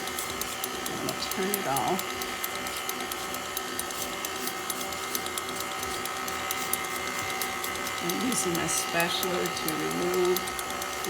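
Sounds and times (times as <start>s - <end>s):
stand mixer motor whirring: 0.0s - 11.0s.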